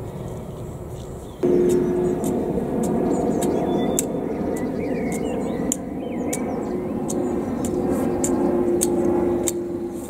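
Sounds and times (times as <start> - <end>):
hum: 1.4 - 10.0
low engine drone: 1.4 - 10.0.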